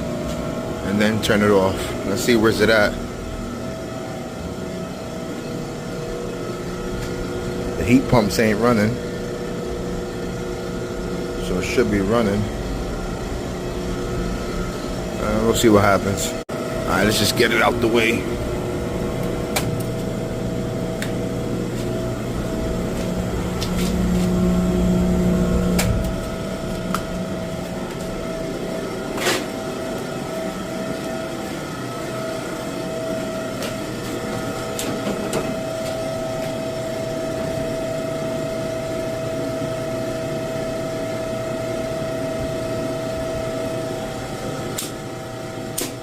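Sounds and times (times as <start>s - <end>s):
boiler mechanical hum: 0.0s - 46.0s.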